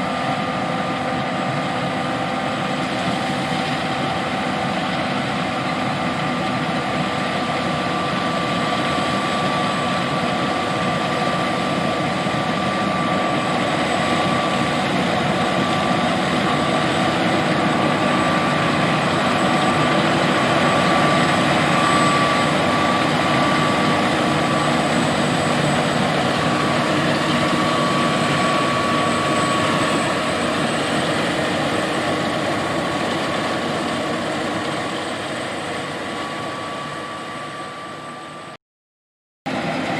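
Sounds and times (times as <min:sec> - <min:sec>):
combine harvester engine drone: 0:00.0 - 0:38.6, 0:39.5 - 0:39.9
high steady whine: 0:00.0 - 0:38.6.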